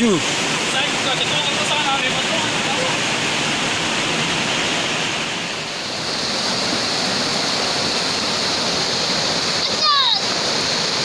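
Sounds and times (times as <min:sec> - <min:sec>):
rushing river water: 0:00.0 - 0:11.0.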